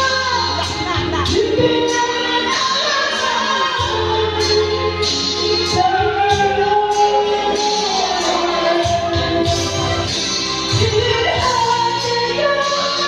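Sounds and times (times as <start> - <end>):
instrumental accompaniment with beat: 0.0 - 13.0
woman singing: 0.0 - 13.0.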